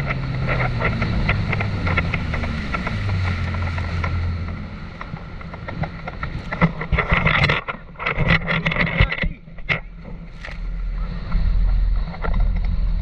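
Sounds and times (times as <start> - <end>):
hull slapping water: 0.0 - 13.0
jet ski engine drone: 0.0 - 13.0
low rumble: 0.0 - 13.0.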